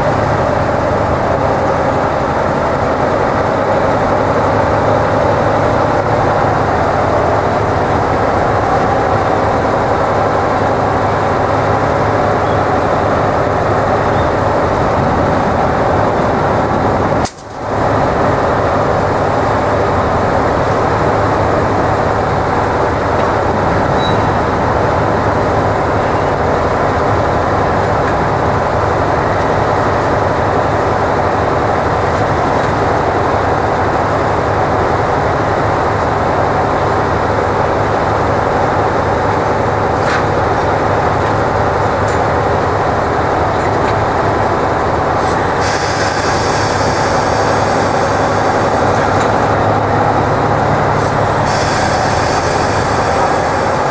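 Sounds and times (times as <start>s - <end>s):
diesel locomotive engine idling: 0.0s - 53.9s.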